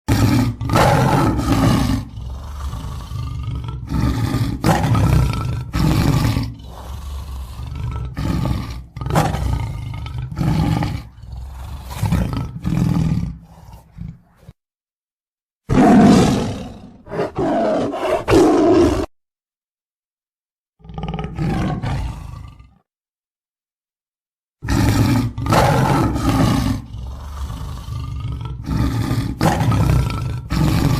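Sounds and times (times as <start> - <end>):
tigers roaring and growling: 0.1 - 14.6, 15.7 - 19.1, 20.8 - 22.8, 24.6 - 30.9.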